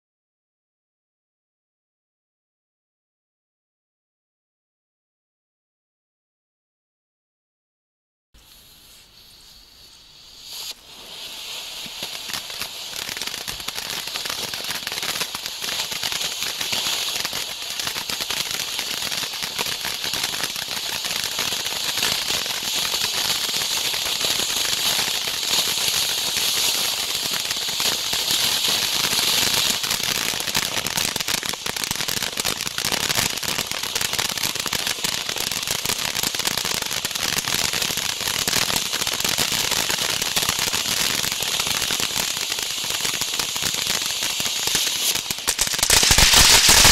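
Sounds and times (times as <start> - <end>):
ground fountain firework hissing: 8.4 - 46.9.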